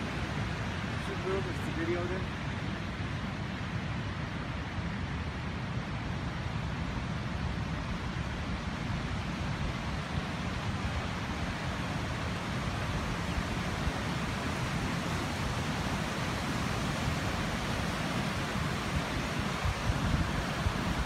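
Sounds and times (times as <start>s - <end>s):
creek rushing over rocks: 0.0s - 4.4s, 7.7s - 21.0s.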